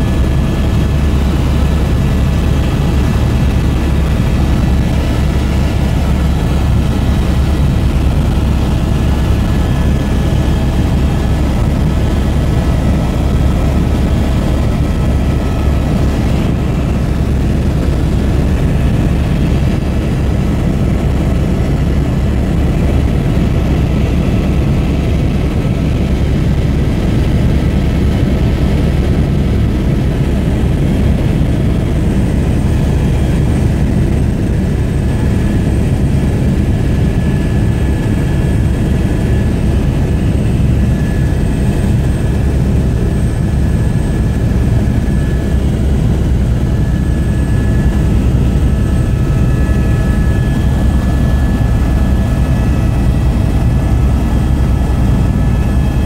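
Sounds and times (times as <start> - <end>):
helicopter drone inside cabin: 0.0 - 56.0.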